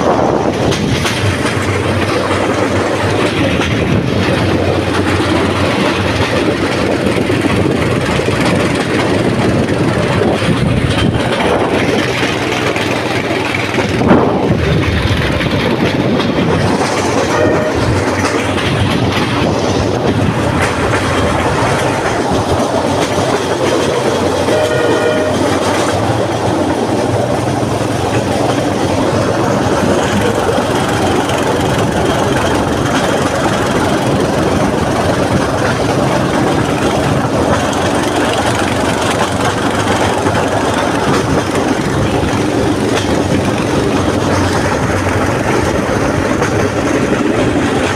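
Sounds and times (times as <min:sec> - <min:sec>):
train wheels clattering on rails: 0:00.0 - 0:47.9.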